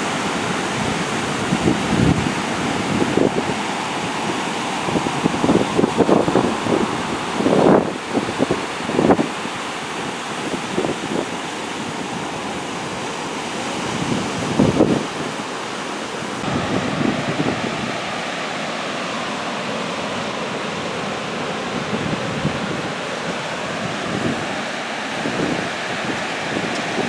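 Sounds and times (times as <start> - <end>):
wind rumble on microphone: 0.0 - 15.5, 16.3 - 18.4, 20.8 - 27.0
heavy surf breaking on beach: 0.0 - 27.0.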